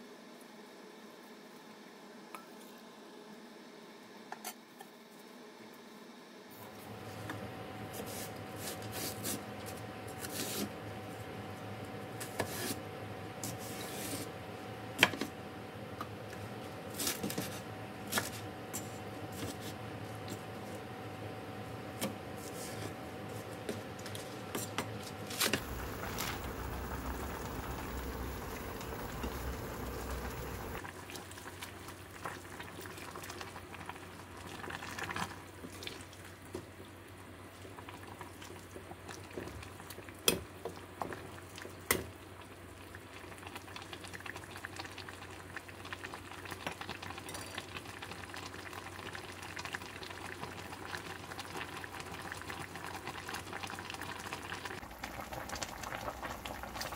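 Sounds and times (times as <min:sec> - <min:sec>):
liquid boiling in a pot: 0:06.6 - 0:56.9.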